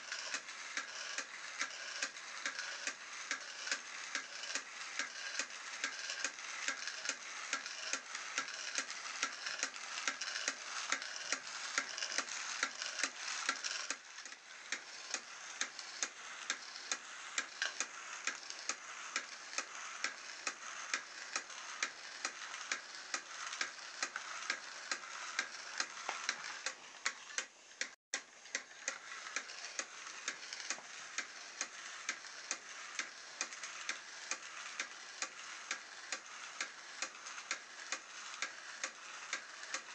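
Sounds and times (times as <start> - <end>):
robot motor whirring: 0.1 - 39.9.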